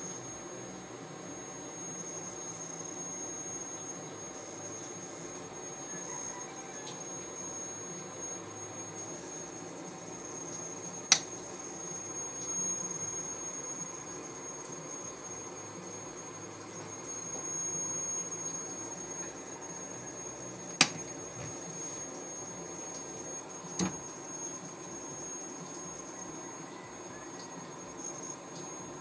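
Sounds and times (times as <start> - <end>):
inverter electrical hum: 0.0 - 29.0
thin high whine: 0.0 - 29.0.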